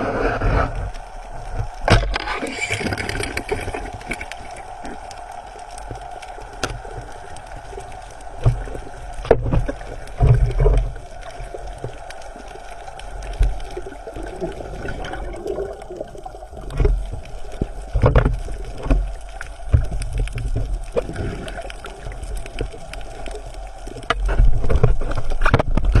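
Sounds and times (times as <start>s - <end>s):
water gurgling and sloshing: 0.0s - 26.0s.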